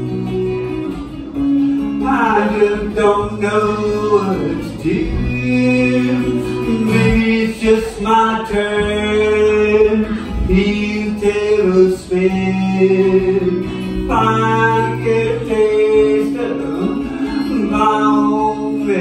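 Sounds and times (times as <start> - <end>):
strummed acoustic guitar: 0.0 - 19.0
person singing long notes: 2.0 - 19.0.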